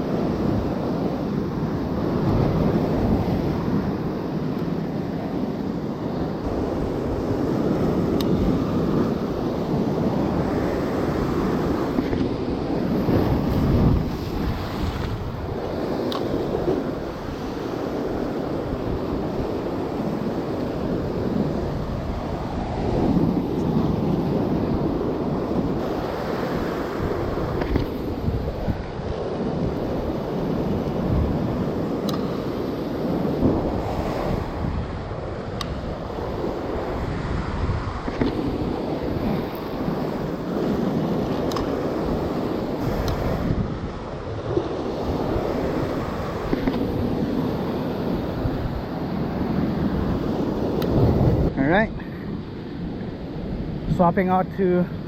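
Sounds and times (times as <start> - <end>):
ocean surf breaking: 0.0 - 55.0
wind buffeting microphone: 0.0 - 55.0.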